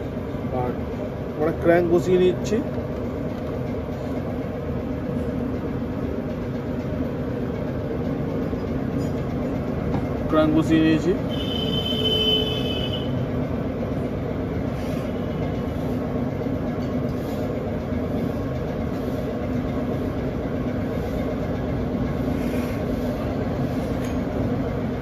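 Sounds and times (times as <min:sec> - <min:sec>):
steady mechanical rumble: 0:00.0 - 0:25.0.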